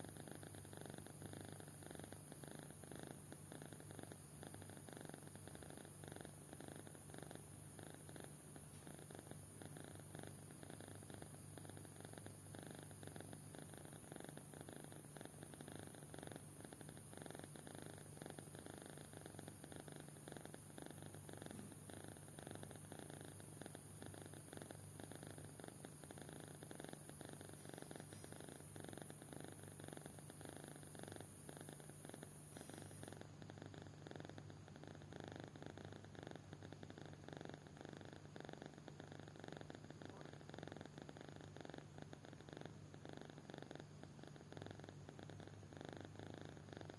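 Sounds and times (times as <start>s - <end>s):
kitten purring: 0.0s - 46.9s
steady high hiss: 0.0s - 46.9s.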